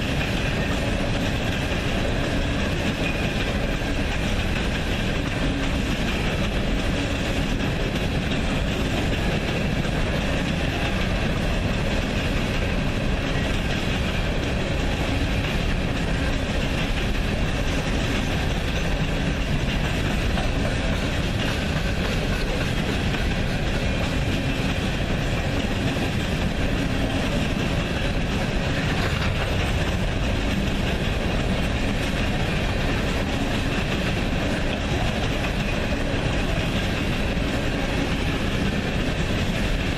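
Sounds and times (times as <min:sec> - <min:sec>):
train rumbling past on rails: 0:00.0 - 0:39.9.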